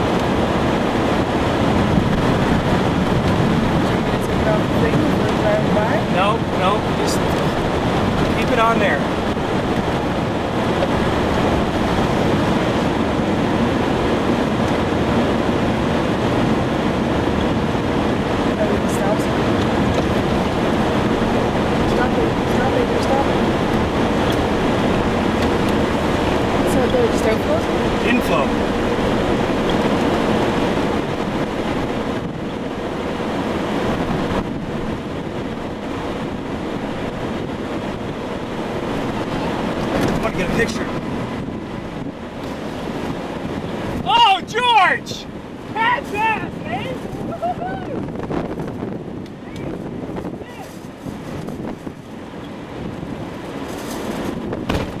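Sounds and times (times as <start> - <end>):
strong wind rushing: 0.0 - 55.0.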